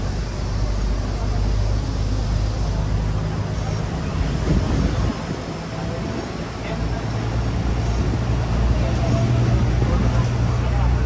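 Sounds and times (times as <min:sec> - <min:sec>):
bus engine humming: 0:00.0 - 0:11.0
wind and road noise: 0:00.0 - 0:11.0.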